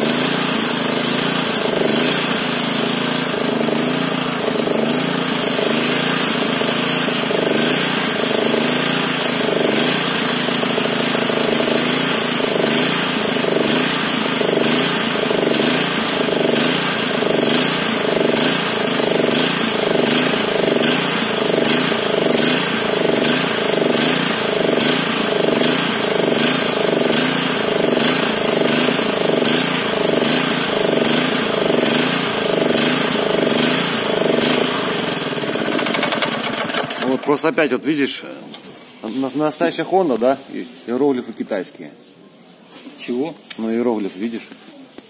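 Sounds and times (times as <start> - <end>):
small engine running: 0.0 - 37.6.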